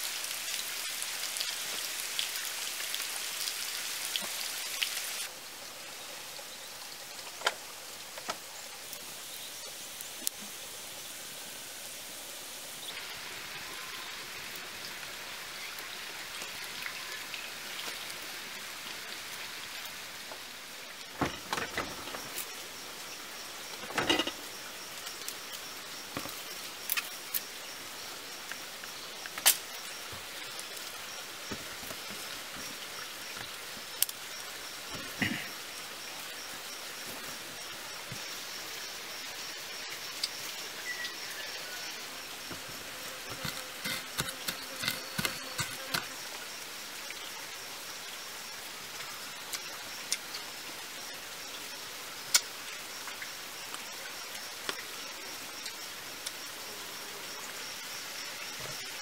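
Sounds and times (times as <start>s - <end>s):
rain-like background hiss: 0.0s - 59.0s.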